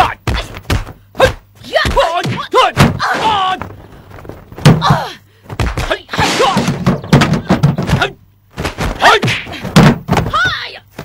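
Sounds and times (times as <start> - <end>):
fighters shouting and grunting: 0.0 - 3.8, 4.8 - 8.2, 8.9 - 11.0
punch and kick thuds: 0.2 - 3.5, 4.6 - 10.5.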